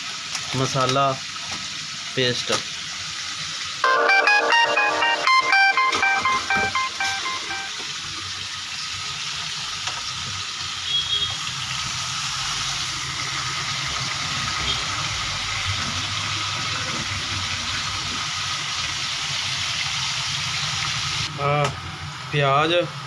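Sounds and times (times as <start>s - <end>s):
chicken frying in oil: 0.0s - 3.8s, 8.1s - 23.0s.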